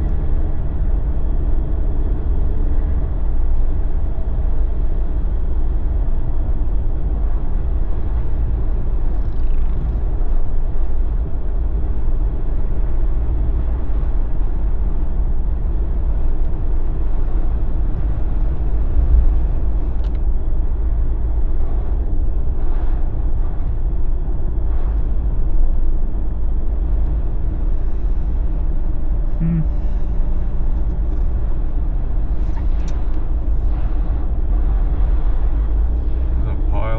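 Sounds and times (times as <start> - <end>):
car engine and tyre rumble: 0.0 - 36.9.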